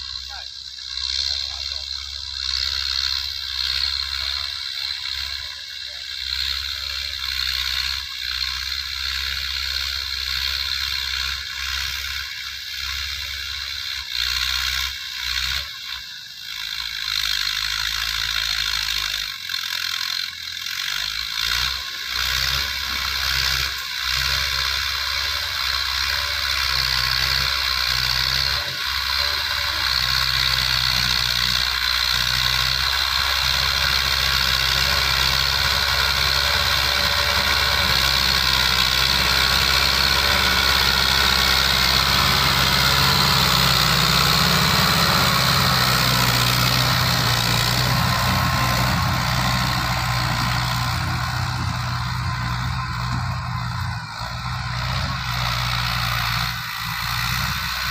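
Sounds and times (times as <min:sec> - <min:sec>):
rotary tiller whine and clatter: 0:00.0 - 0:57.9
tractor diesel engine under load: 0:00.0 - 0:57.9.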